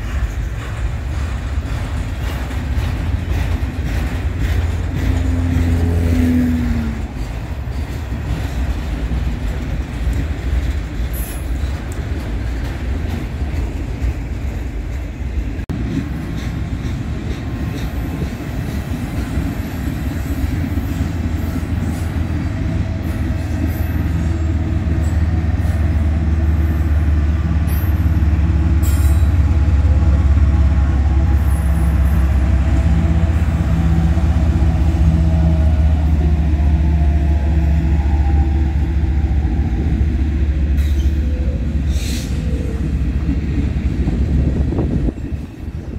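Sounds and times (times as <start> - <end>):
diesel locomotive engine drone: 0.0 - 45.9
train wheels clattering on rails: 0.0 - 45.9.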